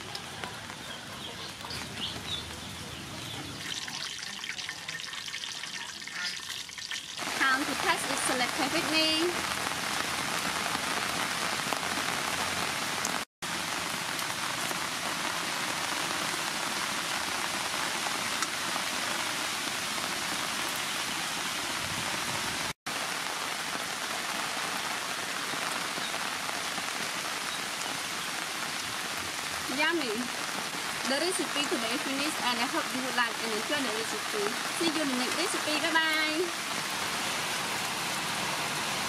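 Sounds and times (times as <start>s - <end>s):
steady rain: 0.0s - 5.0s, 7.1s - 39.0s.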